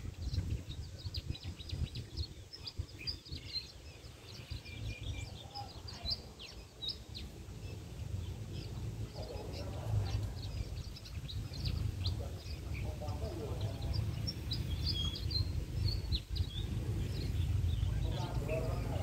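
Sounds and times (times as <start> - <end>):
low uneven rumble: 0.0 - 19.0
small birds chirping: 0.0 - 19.0.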